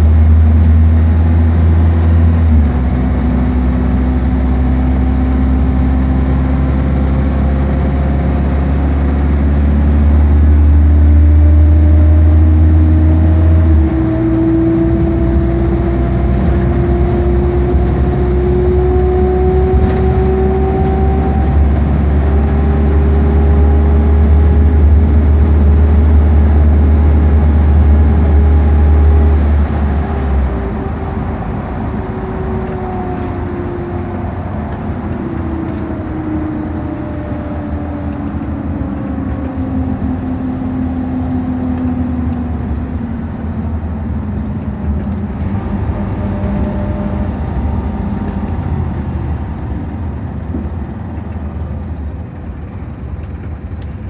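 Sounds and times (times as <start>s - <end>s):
coach engine drone: 0.0s - 54.0s
engine whine sliding down: 0.0s - 54.0s.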